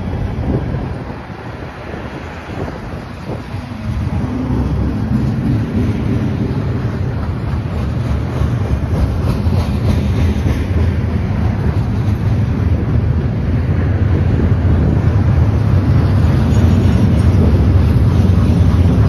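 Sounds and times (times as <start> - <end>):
freight train cars rolling: 0.0 - 19.0.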